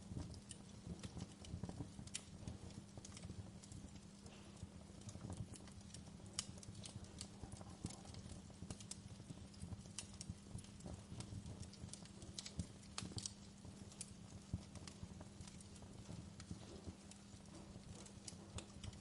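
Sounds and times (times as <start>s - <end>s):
steady low hum: 0.0s - 19.0s
wood fire crackling and popping: 0.0s - 19.0s.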